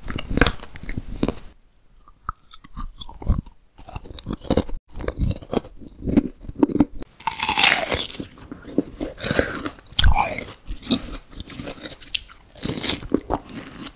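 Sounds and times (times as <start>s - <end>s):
crunchy bites and chewing: 0.0s - 13.9s.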